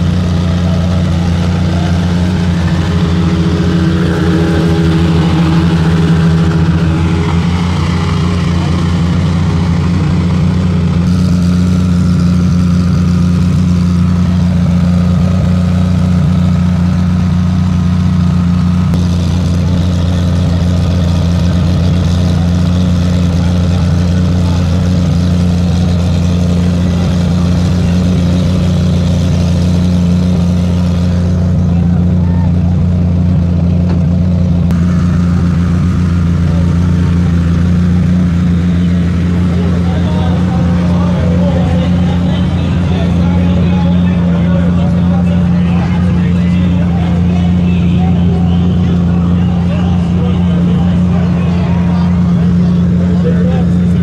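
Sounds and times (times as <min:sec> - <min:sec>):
crowd chatting: 0:00.0 - 0:54.0
low mechanical drone: 0:00.0 - 0:54.0.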